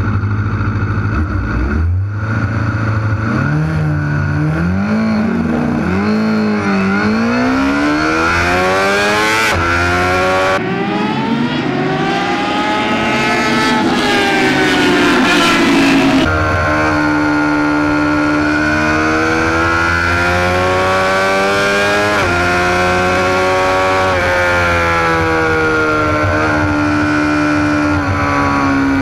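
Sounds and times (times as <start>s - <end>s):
motorcycle engine accelerating hard: 0.0s - 29.0s.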